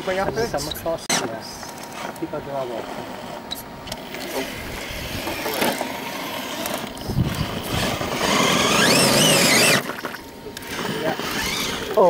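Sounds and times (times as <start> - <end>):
electric motor and drivetrain: 0.0 - 12.0.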